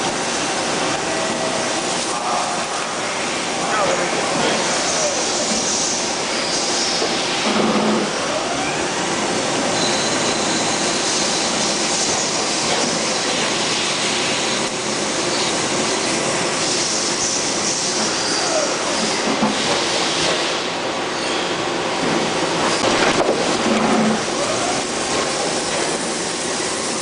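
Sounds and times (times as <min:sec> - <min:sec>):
lathe whirring and hissing: 0:00.0 - 0:27.0.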